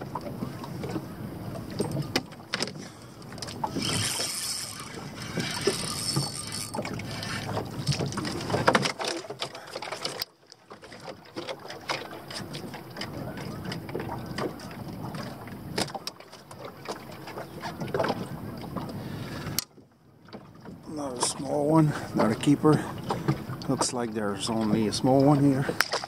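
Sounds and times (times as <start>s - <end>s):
water around boat: 0.0s - 26.0s
wind: 0.0s - 26.0s.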